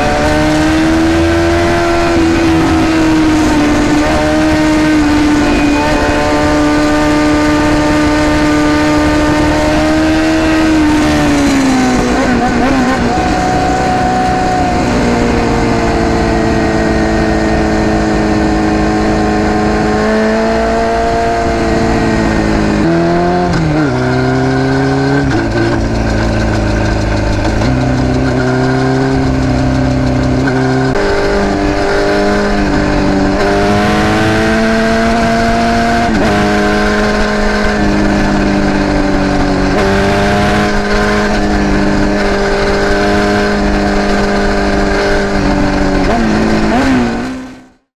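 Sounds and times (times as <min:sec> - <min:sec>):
motorcycle engine revving: 0:00.0 - 0:47.9
wind and road noise: 0:00.0 - 0:47.9.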